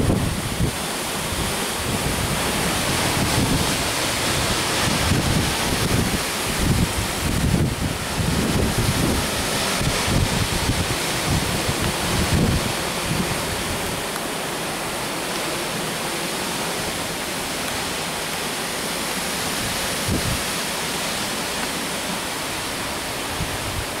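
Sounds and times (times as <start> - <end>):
hard rain hissing: 0.0 - 24.0
wind gusting on microphone: 0.0 - 24.0.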